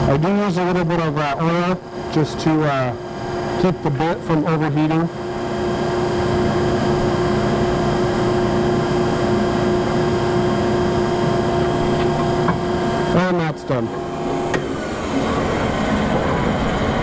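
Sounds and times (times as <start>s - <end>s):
drill press motor humming: 1.6s - 17.0s.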